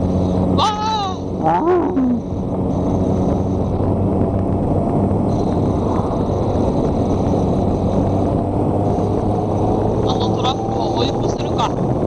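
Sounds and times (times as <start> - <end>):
motorcycle engine hum: 0.0 - 12.0
wind rush on microphone: 0.0 - 12.0.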